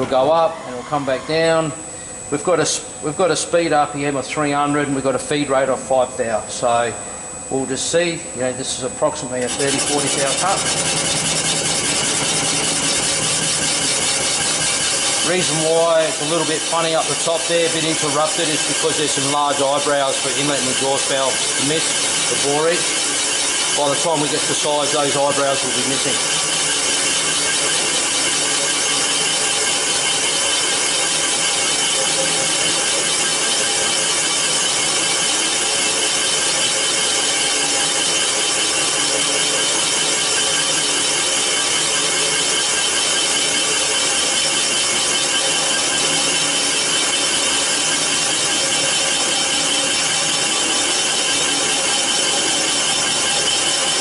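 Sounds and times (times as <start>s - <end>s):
constant high whine: 0.0s - 54.0s
boring machine grinding metal: 8.8s - 54.0s.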